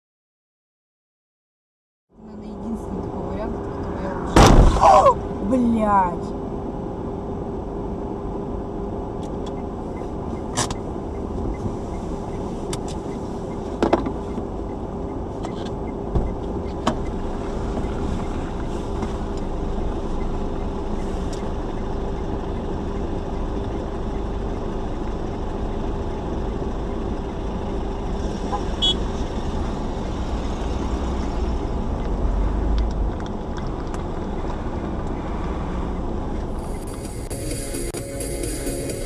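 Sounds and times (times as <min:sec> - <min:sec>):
car engine and road noise: 0:02.1 - 0:39.0.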